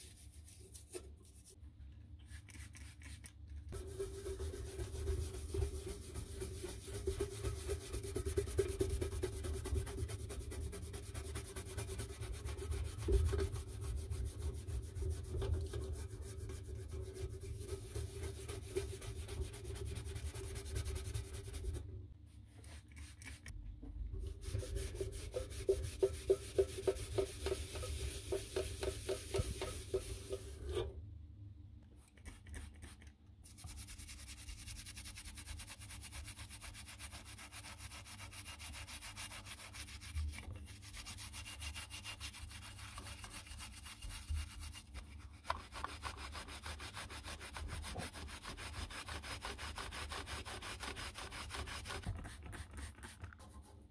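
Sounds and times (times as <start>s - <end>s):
brush scrubbing sheet metal: 0.0s - 1.6s, 2.3s - 23.5s, 24.2s - 30.9s, 32.2s - 53.9s.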